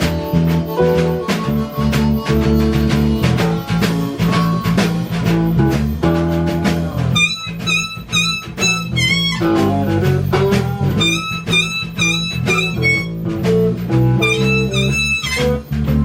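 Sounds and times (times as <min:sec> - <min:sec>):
electric guitar lead: 0:00.0 - 0:16.0
low bass line: 0:00.0 - 0:16.0
steady drum beat: 0:00.0 - 0:16.0.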